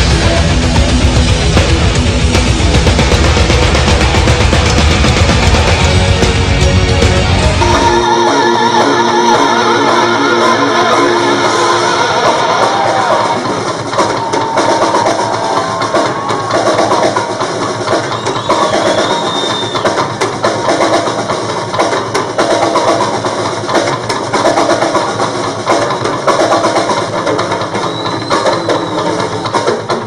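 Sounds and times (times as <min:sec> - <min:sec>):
rock drum fills: 0:00.0 - 0:30.0.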